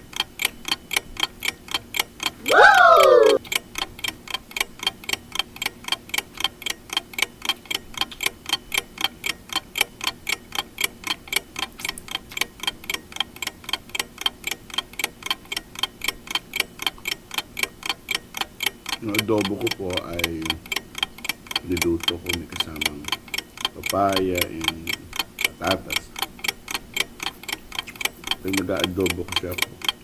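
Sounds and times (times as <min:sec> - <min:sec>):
mechanical ticking: 0:00.0 - 0:30.0.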